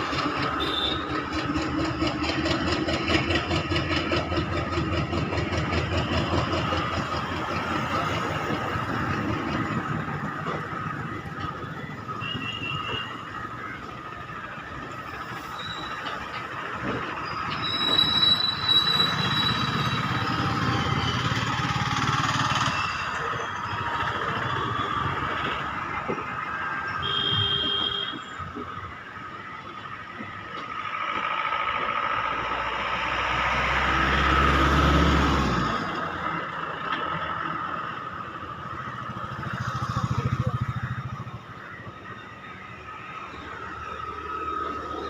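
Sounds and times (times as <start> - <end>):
high train squeals: 0.0 - 34.4, 37.1 - 45.0
train running on track: 0.0 - 45.0.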